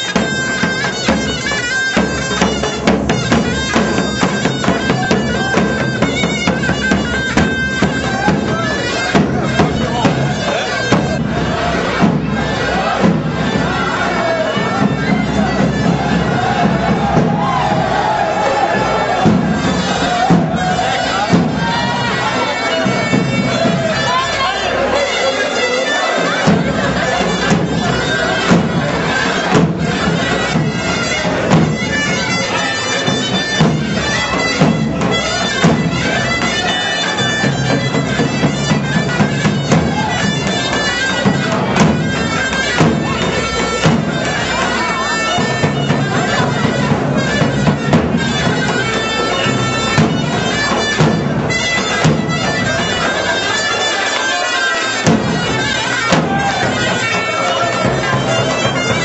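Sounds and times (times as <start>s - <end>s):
drum steady beat: 0.0s - 25.0s, 26.0s - 54.1s, 54.9s - 59.0s
folk dance music on reed instrument: 0.0s - 59.0s.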